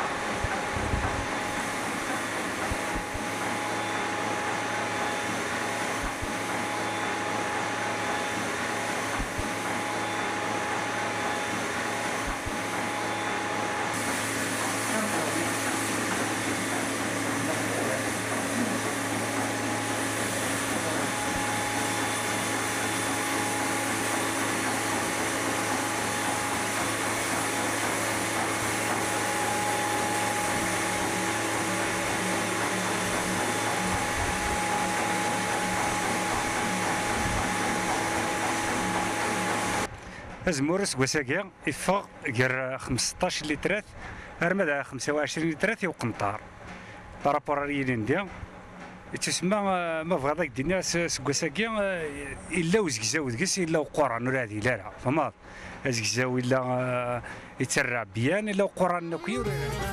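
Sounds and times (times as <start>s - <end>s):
centrifuge whirring with whine: 0.0s - 57.8s.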